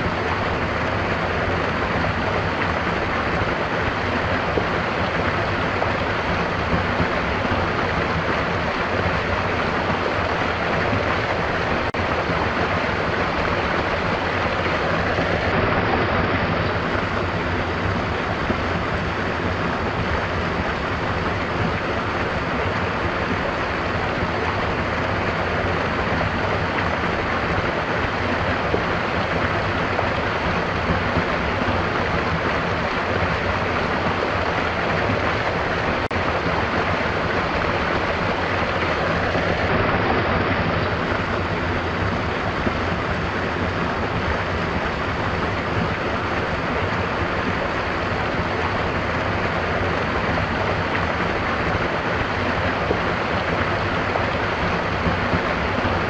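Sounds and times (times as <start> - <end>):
stream of water running: 0.0 - 56.0.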